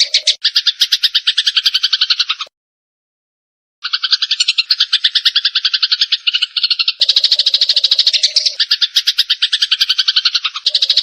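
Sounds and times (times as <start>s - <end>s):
sparrows chattering: 0.0s - 2.5s, 3.8s - 11.0s.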